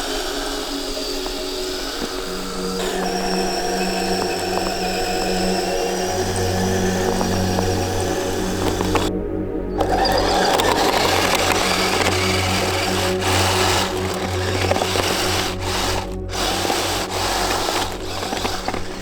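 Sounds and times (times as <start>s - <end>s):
toy vehicle electric motor whirring: 0.0s - 9.1s, 9.8s - 19.0s.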